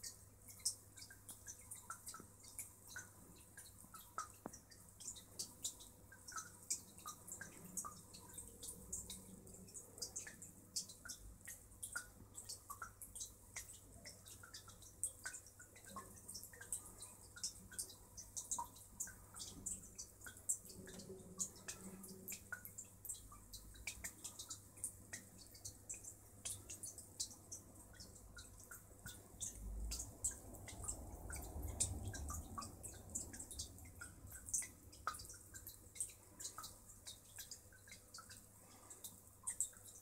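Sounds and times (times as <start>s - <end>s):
water dripping and splashing: 0.0s - 40.0s.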